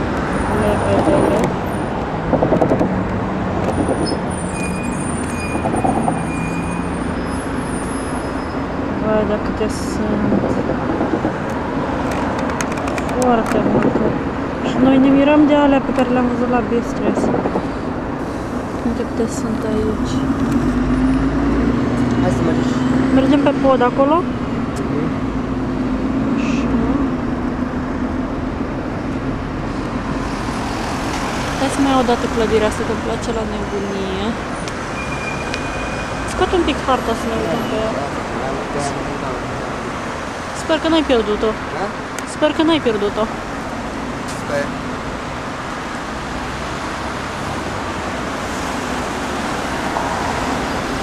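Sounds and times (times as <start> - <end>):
city road traffic: 0.0 - 51.0.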